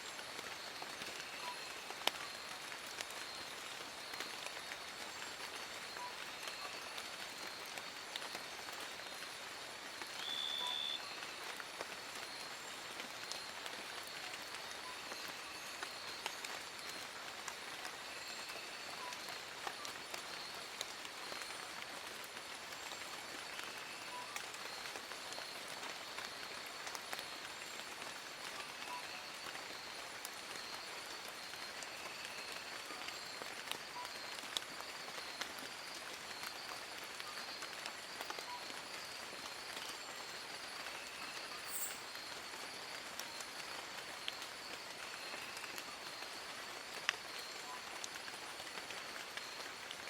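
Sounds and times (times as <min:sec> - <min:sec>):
rain on leaves: 0:00.0 - 0:50.0.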